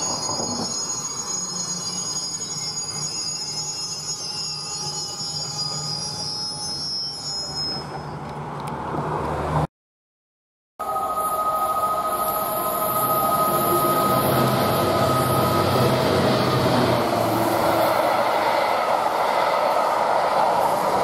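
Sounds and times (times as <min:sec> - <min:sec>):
train wheels squealing: 0:00.0 - 0:08.3, 0:10.8 - 0:21.0.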